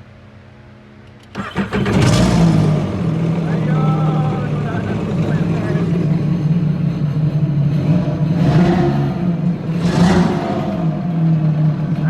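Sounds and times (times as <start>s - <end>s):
personal watercraft engine revving: 1.3s - 12.0s.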